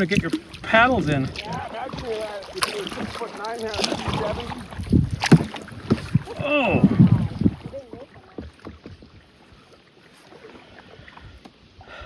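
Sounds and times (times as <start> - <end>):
paddle splashing water: 0.0 - 12.0.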